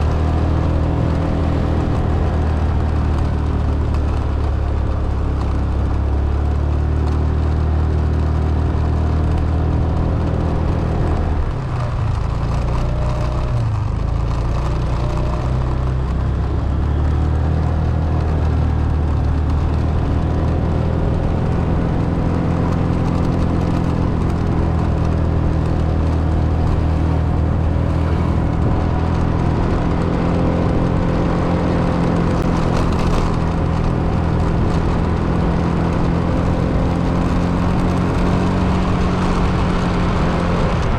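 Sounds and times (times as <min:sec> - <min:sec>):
road noise: 0:00.0 - 0:40.9
vehicle engine hum: 0:00.0 - 0:40.9.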